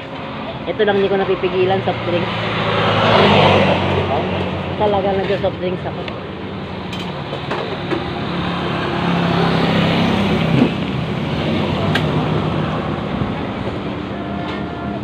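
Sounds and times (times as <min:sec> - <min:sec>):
passing vehicle engine: 0:00.0 - 0:15.0.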